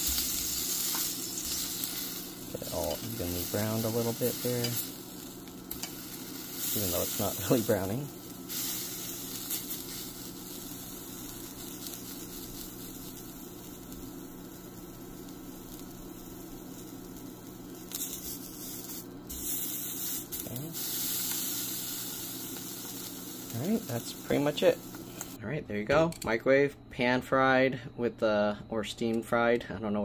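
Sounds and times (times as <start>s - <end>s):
sausage sizzling in a frying pan: 0.0s - 25.4s
steady low hum: 0.0s - 30.0s.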